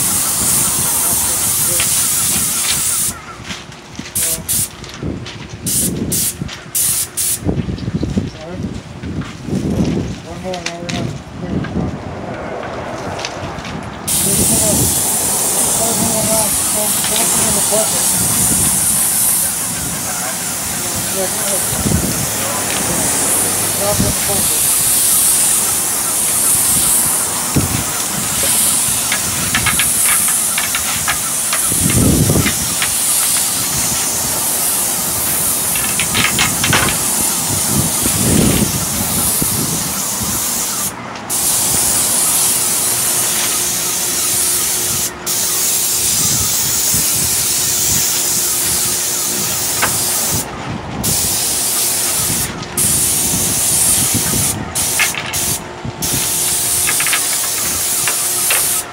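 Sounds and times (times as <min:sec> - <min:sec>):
paint sprayer hissing: 0:00.0 - 0:03.4, 0:04.1 - 0:04.8, 0:05.6 - 0:07.5, 0:14.0 - 0:58.9.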